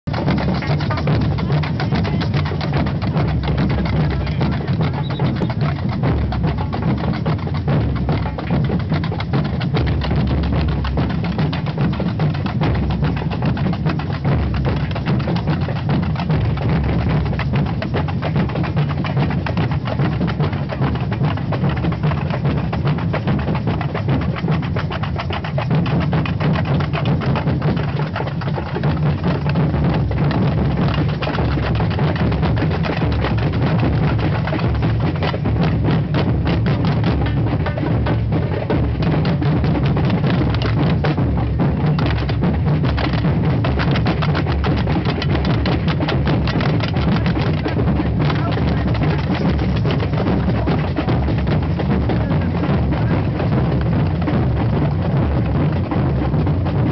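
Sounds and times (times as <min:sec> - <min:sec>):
deep drum pulse: 0:00.0 - 0:56.9
samba percussion band: 0:00.0 - 0:56.9.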